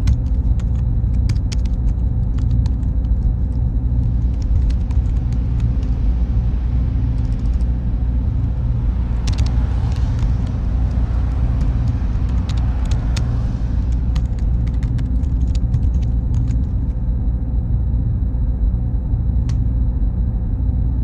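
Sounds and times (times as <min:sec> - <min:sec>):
cooling fans humming: 0:00.0 - 0:21.0
faint high whine: 0:00.0 - 0:21.0.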